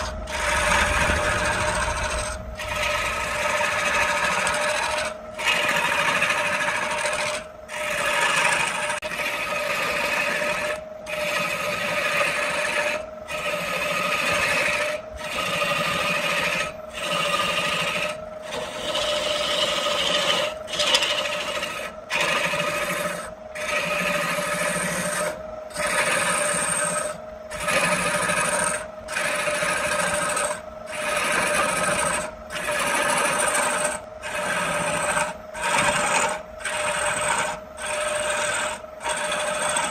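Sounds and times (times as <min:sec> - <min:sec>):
machine whine: 0:00.0 - 0:39.9
tool rasping wood: 0:00.0 - 0:39.9.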